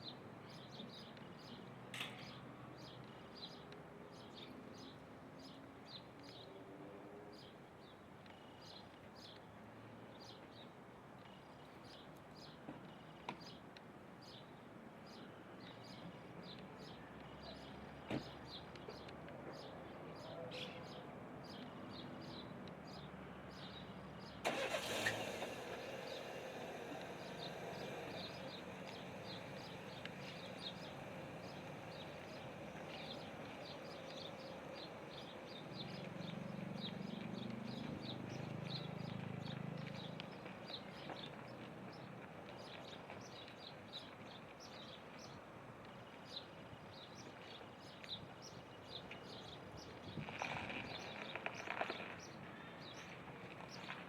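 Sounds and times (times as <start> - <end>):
small birds chirping: 0.0 - 6.6, 14.2 - 24.4, 25.4 - 54.0
street traffic rumble: 0.0 - 54.0.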